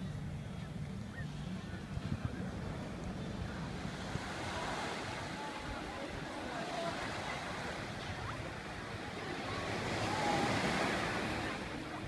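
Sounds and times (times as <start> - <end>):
faint distant voices: 0.0 - 12.0
waves washing onto sand: 0.0 - 12.0.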